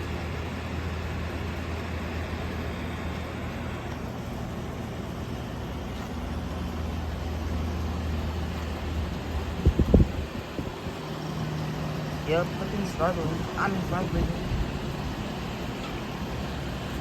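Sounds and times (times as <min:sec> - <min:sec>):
blower air rush: 0:00.0 - 0:17.0
compressor low hum: 0:00.0 - 0:17.0.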